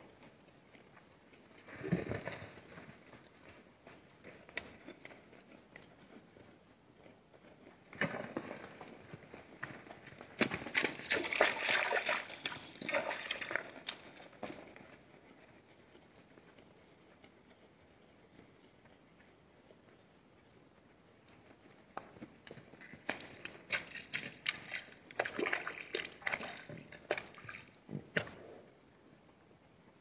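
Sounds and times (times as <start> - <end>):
hooves knocking on stony ground: 0.1 - 28.6.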